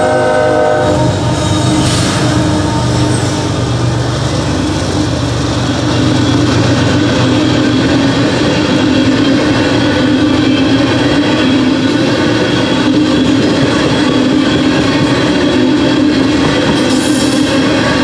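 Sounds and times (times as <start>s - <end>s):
freight train wheels rumbling on rails: 0.0s - 18.0s.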